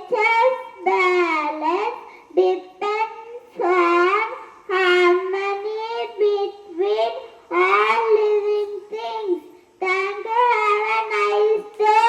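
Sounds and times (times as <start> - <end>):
young child singing: 0.0 - 12.0.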